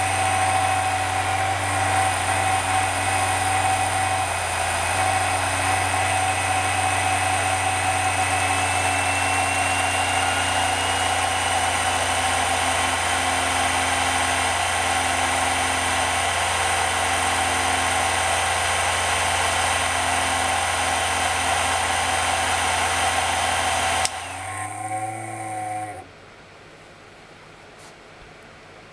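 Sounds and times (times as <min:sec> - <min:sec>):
fan winding down: 0:00.0 - 0:26.1
blower fan whirring and whining: 0:00.0 - 0:28.9.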